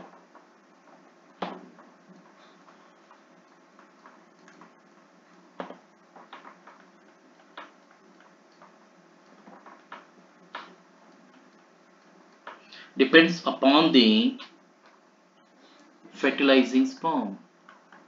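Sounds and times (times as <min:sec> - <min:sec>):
faint hiss: 0:00.0 - 0:18.0.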